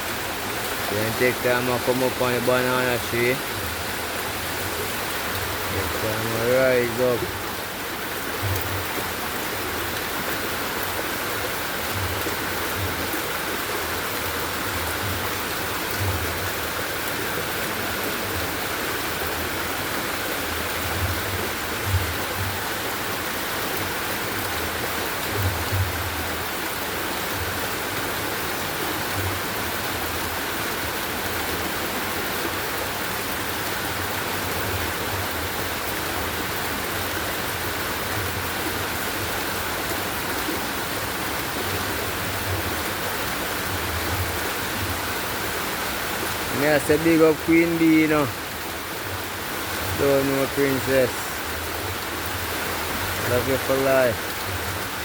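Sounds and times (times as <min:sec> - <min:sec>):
heavy rain and floodwater rushing: 0:00.0 - 0:55.0.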